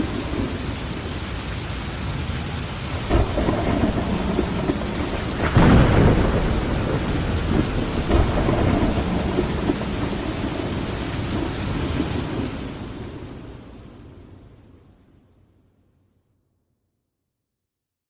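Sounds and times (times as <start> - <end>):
thunder rumbling: 0.0 - 15.0
heavy rain: 0.0 - 15.6.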